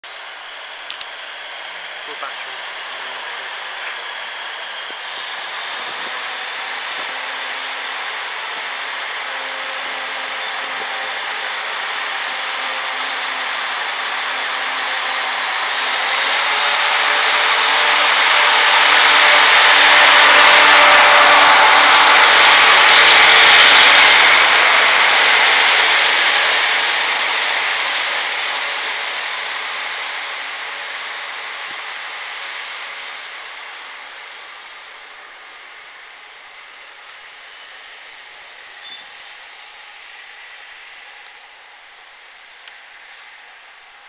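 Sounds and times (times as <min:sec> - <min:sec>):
train wheels on rail: 0:00.0 - 0:44.0
faint high whine: 0:00.1 - 0:44.0.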